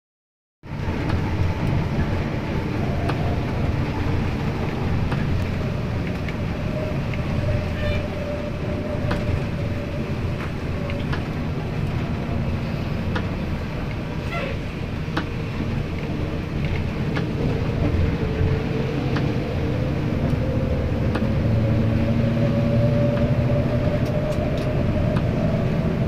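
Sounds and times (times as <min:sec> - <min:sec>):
bus engine and tyres rumbling: 0:00.6 - 0:26.0.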